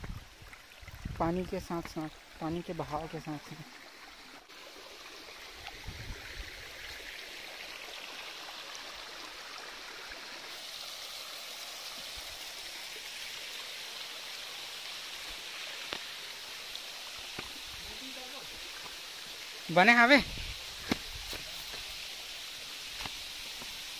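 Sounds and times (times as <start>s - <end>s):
stream running over stones: 0.0s - 23.9s.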